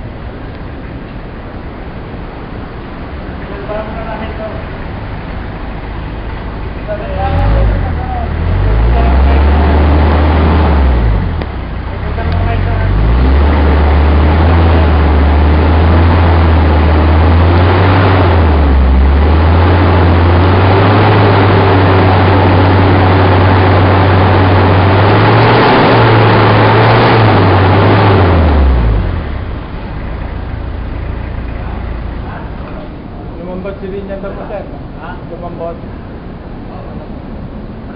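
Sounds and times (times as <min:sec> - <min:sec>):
diesel engine revving: 0:00.0 - 0:37.9.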